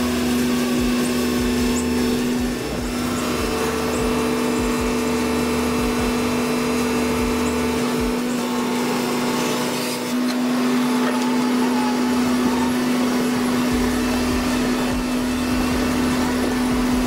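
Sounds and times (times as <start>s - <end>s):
excavator engine drone: 0.0s - 17.0s.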